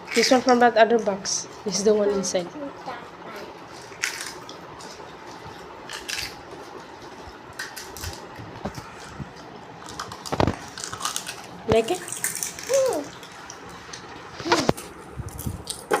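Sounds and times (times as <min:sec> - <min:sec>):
food squishing and crackling: 0:00.0 - 0:01.9, 0:03.6 - 0:16.0.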